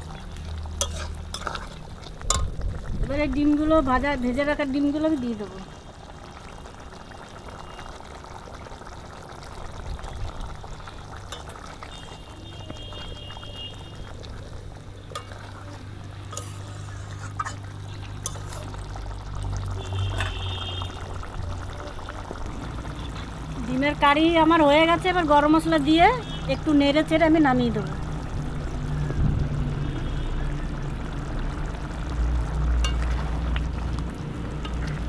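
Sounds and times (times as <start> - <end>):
gravy simmering and bubbling: 0.0 - 35.0.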